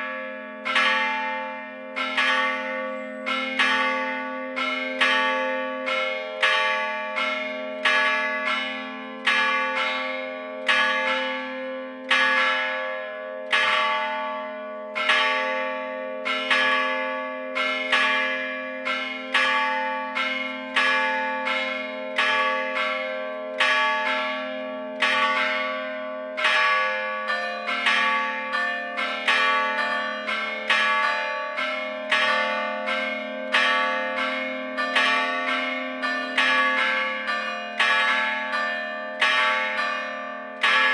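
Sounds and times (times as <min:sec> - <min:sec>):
church bells struck by hammers: 0:00.0 - 0:40.9.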